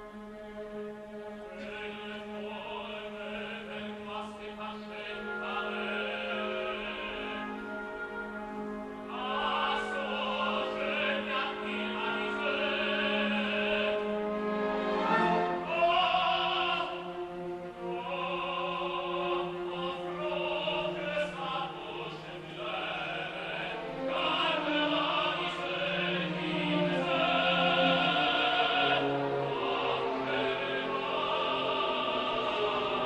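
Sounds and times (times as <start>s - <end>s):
operatic tenor singing: 0.0s - 33.0s
orchestral accompaniment: 0.0s - 33.0s.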